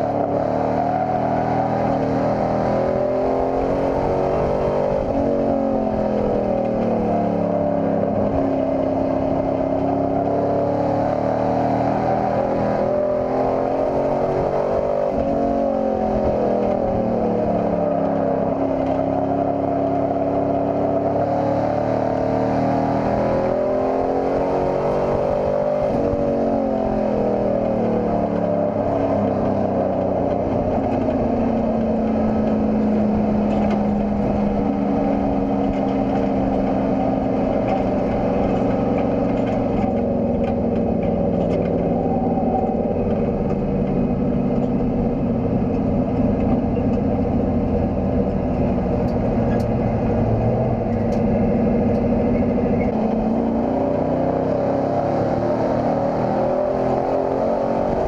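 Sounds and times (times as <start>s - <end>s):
race truck engine revving: 0.0s - 58.0s.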